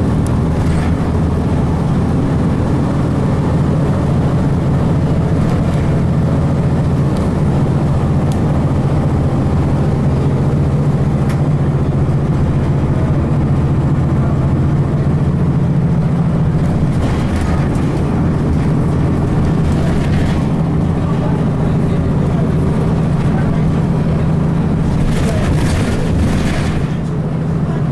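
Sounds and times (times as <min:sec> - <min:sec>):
bus diesel engine running: 0:00.0 - 0:27.9.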